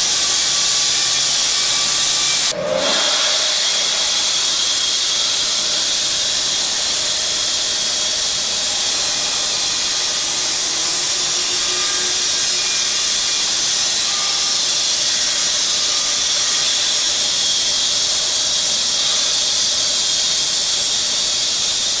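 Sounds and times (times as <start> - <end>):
bandsaw mill cutting log: 0.0 - 22.0.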